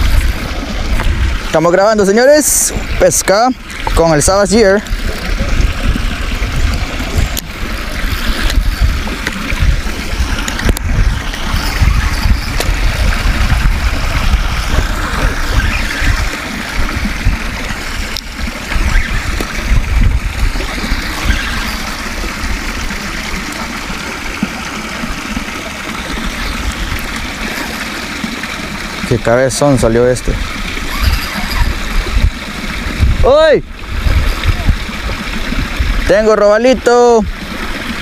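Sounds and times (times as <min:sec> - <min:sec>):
wind buffeting microphone: 0:00.0 - 0:36.3.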